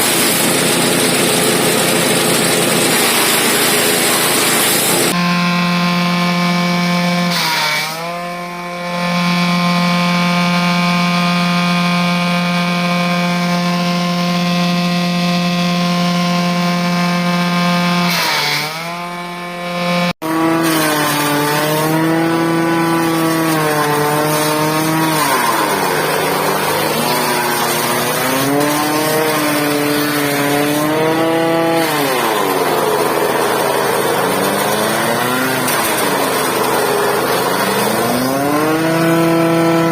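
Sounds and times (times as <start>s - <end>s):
chaff cutter engine droning: 0.0s - 39.9s.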